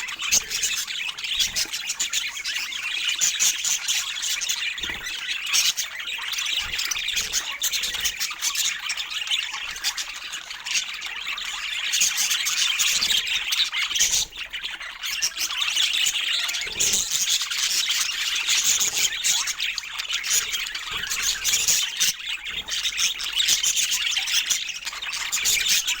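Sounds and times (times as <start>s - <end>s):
budgerigars chattering and chirping: 0.0s - 26.0s.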